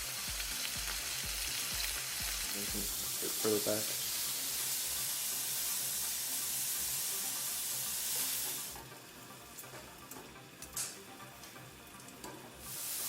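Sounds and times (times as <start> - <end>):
skewers sizzling: 0.0 - 13.0.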